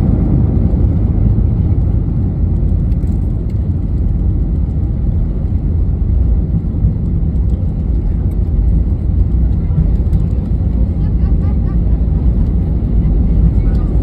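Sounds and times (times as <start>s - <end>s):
jet cabin engine rumble: 0.0s - 14.0s.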